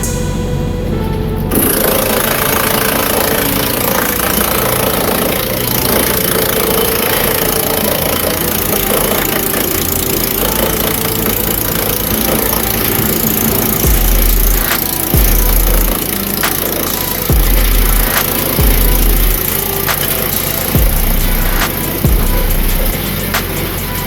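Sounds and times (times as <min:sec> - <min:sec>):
wood chipper running: 0:00.0 - 0:24.0.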